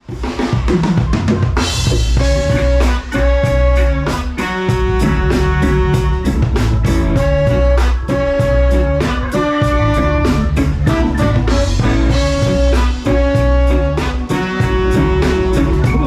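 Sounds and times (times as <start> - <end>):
drum fill: 0.0 - 16.0
reggae band playing: 0.0 - 16.0
horn section long notes: 2.2 - 16.0.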